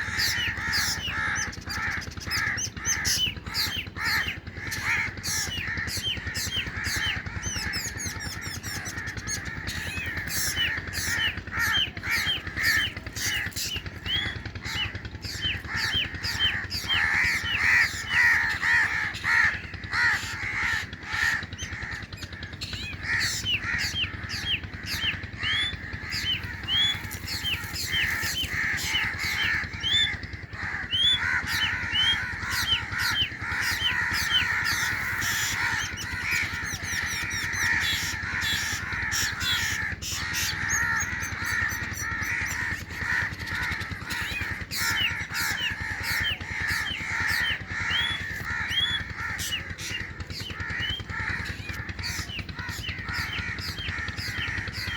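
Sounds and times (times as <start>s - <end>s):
bird chicks calling: 0.0s - 54.9s.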